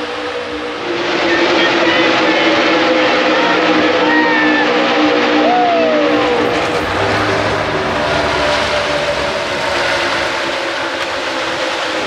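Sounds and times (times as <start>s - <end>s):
racing car engines roaring: 0.0s - 12.0s.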